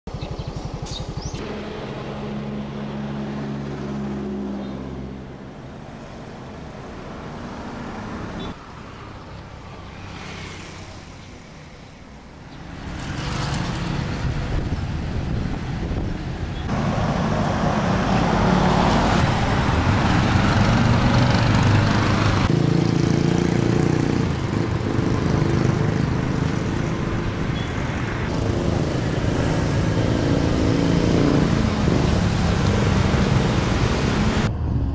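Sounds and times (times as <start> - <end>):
passing cars and motorcycles: 0.1 - 34.9.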